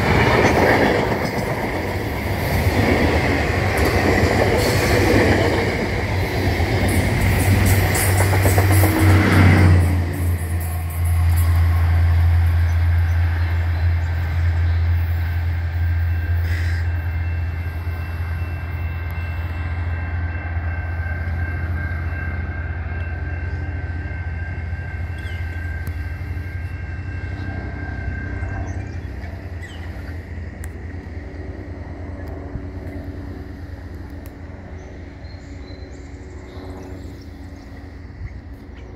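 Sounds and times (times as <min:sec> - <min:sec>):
train rail rumble: 0:00.0 - 0:38.9.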